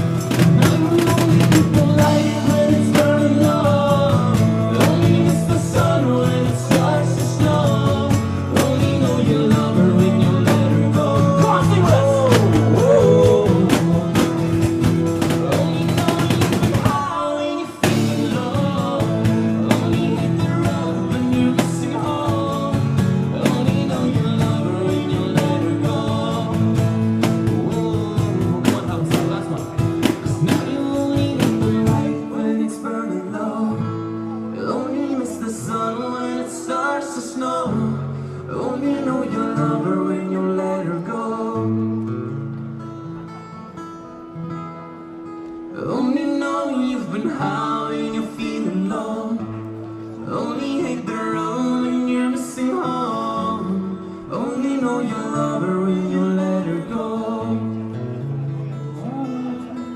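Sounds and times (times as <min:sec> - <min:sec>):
wordless vocals: 0:00.0 - 0:42.5, 0:45.7 - 0:59.9
guitar and drum band music: 0:00.0 - 0:59.9.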